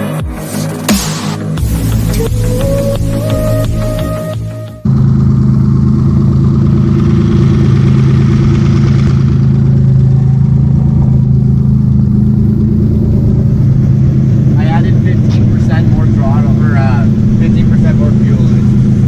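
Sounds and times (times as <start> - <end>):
car engines droning: 0.0 - 19.0.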